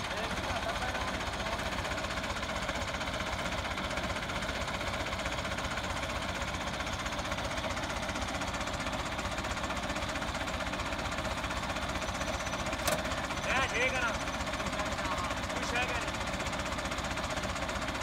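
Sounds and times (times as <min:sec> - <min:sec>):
diesel tractor engine idling: 0:00.0 - 0:18.0.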